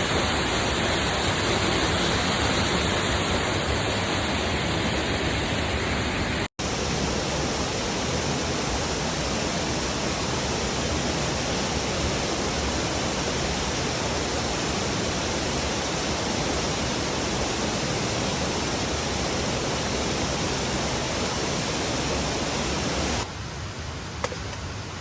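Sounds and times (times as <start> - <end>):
rushing falling water: 0.0 - 25.0.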